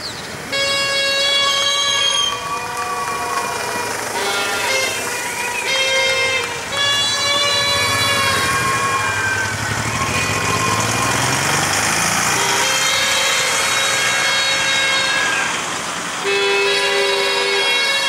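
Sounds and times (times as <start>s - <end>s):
vehicles driving past: 0.0s - 18.0s
long steady warning tones: 0.6s - 18.0s.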